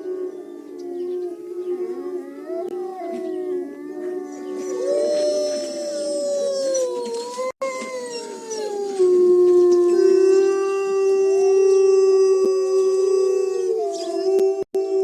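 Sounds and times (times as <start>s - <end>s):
strong low wolf howl: 0.0s - 15.0s
wolves howling in chorus: 0.0s - 15.0s.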